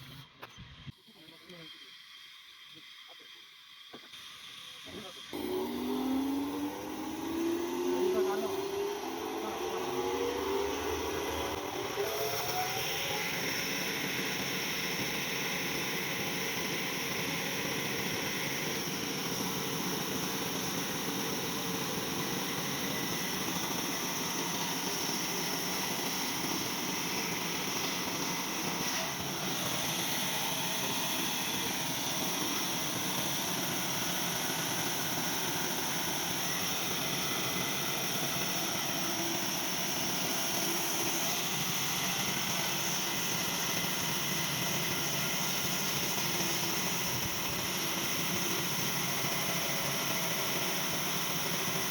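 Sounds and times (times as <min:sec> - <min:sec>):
sawmill machinery hissing: 0:00.0 - 0:51.9.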